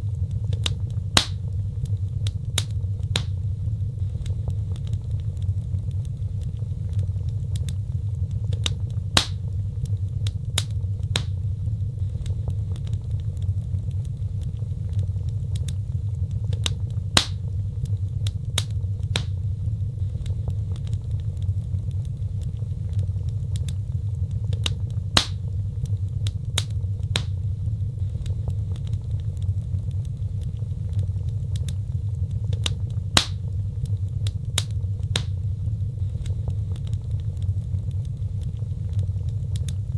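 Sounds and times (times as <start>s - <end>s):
sharp pops from fire: 0.0s - 39.9s
wood fire crackling: 0.0s - 39.9s.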